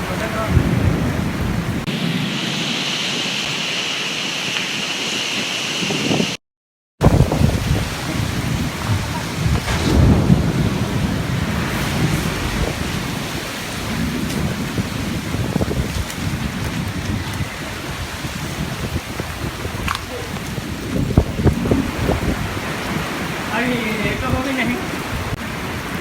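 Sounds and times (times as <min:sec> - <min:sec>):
wind gusts buffeting microphone: 0:00.0 - 0:03.7, 0:04.4 - 0:06.4, 0:07.0 - 0:26.0
heavy rain: 0:00.0 - 0:06.4, 0:07.0 - 0:26.0.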